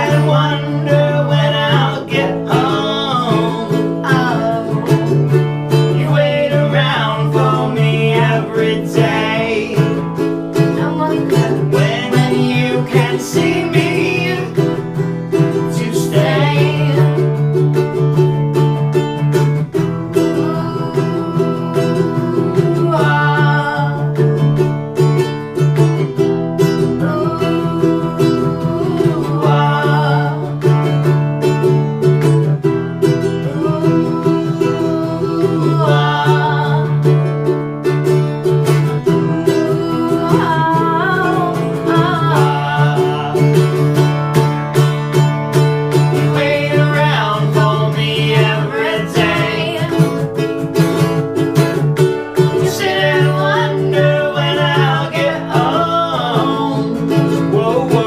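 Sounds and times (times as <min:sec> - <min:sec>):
strummed plucked strings: 0:00.0 - 0:58.0.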